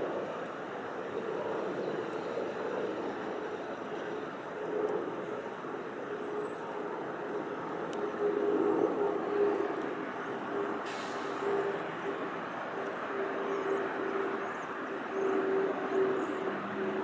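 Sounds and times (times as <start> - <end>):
jet engine noise with whine: 0.0 - 17.0.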